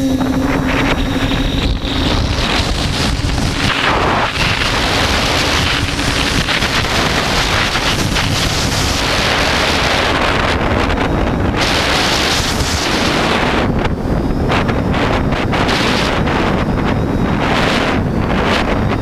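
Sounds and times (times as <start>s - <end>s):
drone propellers humming: 0.0s - 19.0s
wind buffeting microphone: 0.0s - 19.0s.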